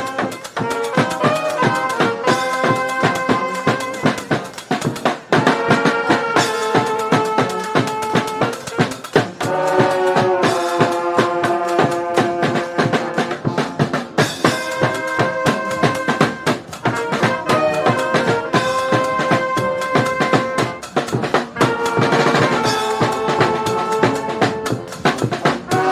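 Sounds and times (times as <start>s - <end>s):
brass band playing: 0.0s - 25.9s
busy drum beat: 0.0s - 25.9s.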